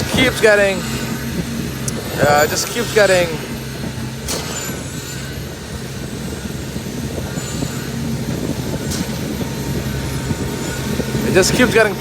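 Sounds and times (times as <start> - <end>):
engine drone of concrete pump: 0.0 - 12.0.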